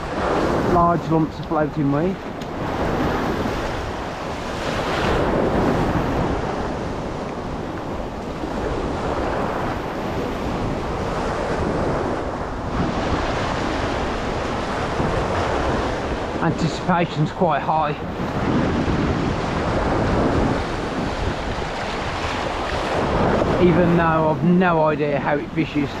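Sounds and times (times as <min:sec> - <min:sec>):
choppy sea waves washing: 0:00.0 - 0:26.0
wind rumbling on microphone: 0:00.0 - 0:26.0.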